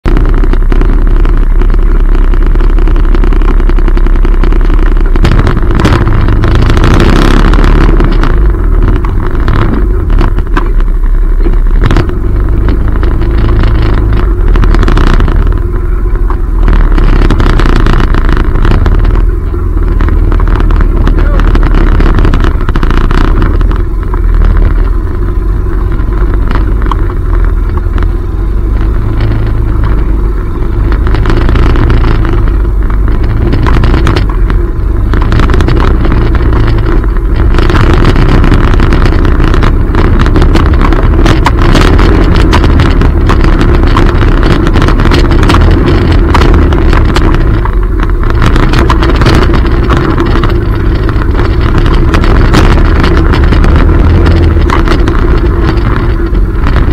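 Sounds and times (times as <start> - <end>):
atv engine running: 0.0 - 56.9.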